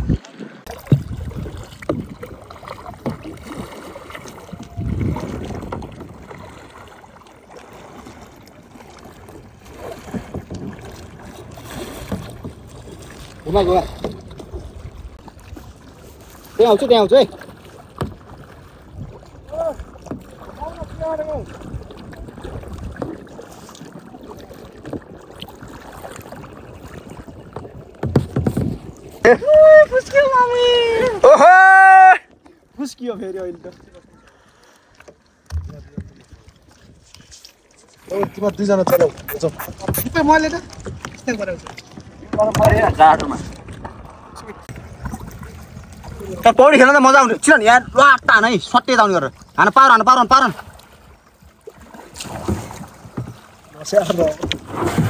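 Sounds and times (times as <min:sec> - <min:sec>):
paddles splashing in water: 0:00.0 - 0:55.0
water washing against hull: 0:00.0 - 0:55.0
wind: 0:00.0 - 0:55.0.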